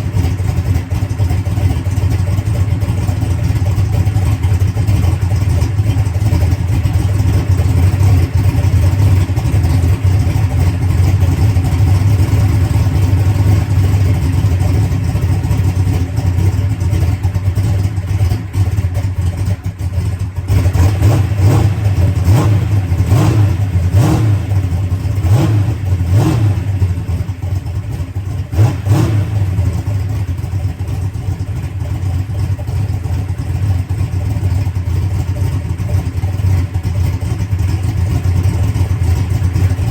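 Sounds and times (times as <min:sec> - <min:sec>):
race car engine idling: 0:00.0 - 0:39.9.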